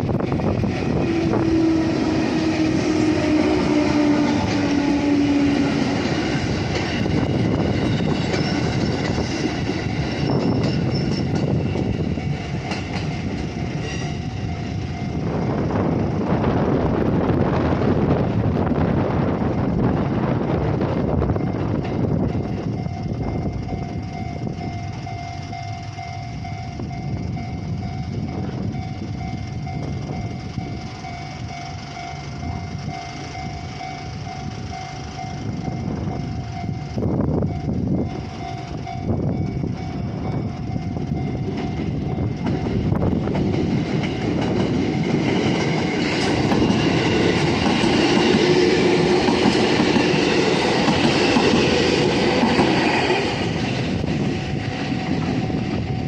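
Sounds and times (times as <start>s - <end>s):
train wheels clacking on rails: 0.0s - 18.7s, 19.6s - 56.0s
level crossing warning bell: 0.9s - 16.3s, 21.1s - 56.0s.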